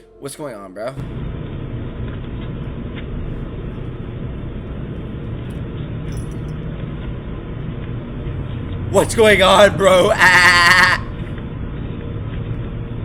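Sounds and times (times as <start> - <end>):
low rumbling outdoor background noise: 0.0 - 13.0.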